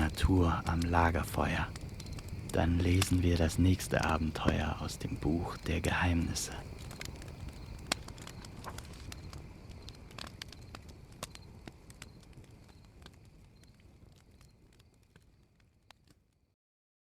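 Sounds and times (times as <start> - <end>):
campfire crackling: 0.0 - 16.6.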